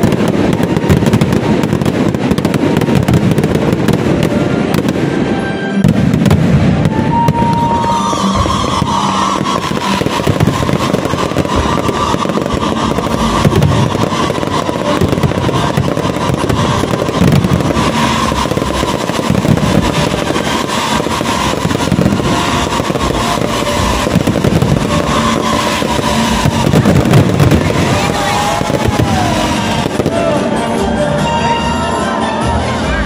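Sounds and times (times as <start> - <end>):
fireworks bangs and crackling: 0.0 - 32.4.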